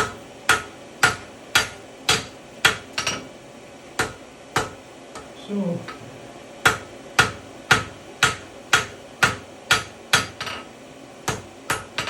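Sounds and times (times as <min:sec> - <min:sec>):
hammer striking hot iron on anvil: 0:00.0 - 0:03.3, 0:04.0 - 0:05.4, 0:06.6 - 0:12.0.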